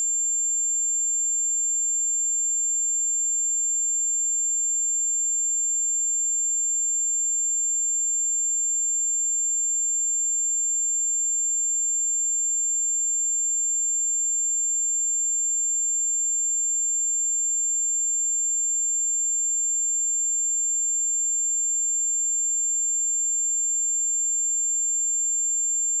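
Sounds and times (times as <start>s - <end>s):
high-pitched sine test tone: 0.0s - 26.0s.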